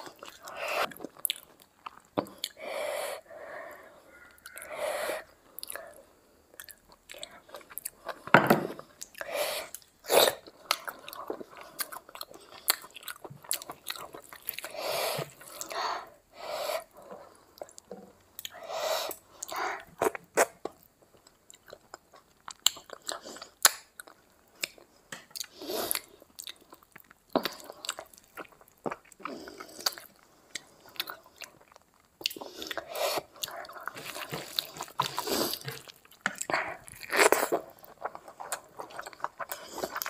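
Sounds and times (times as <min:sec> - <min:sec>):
chewing and lip smacking: 0:00.0 - 0:02.6, 0:05.5 - 0:08.3, 0:08.9 - 0:15.8, 0:17.0 - 0:40.0.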